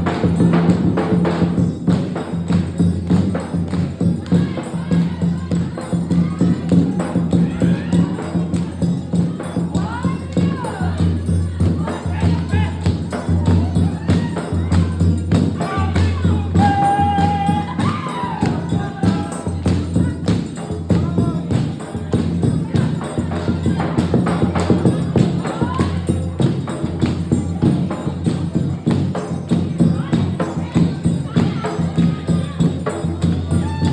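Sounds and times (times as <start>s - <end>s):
fast beat music with bass: 0.0s - 33.9s.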